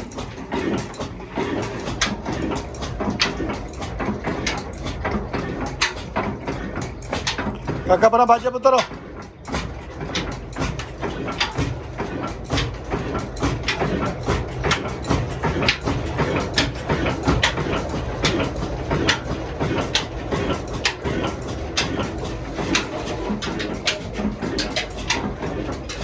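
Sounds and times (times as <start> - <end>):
diesel engine knocking clatter: 0.0 - 26.0.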